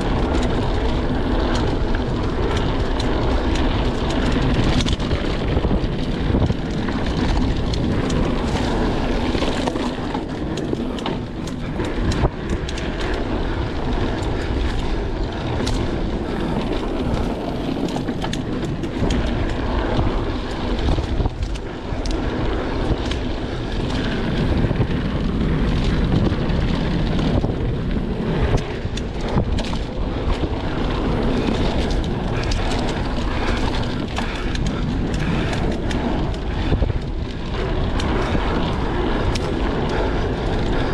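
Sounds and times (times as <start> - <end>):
bike clicking and rattling: 0.0 - 40.9
tyres rolling on dirt: 0.0 - 40.9
wind on microphone: 0.0 - 40.9.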